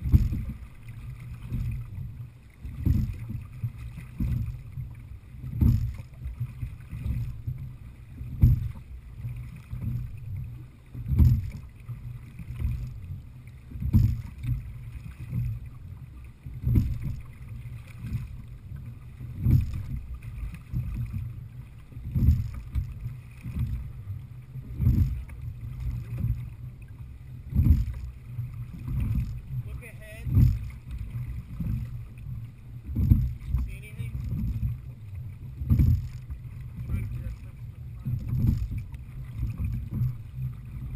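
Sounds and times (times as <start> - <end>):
oars splashing in water: 0.0 - 40.9
steady low rumble: 0.0 - 40.9.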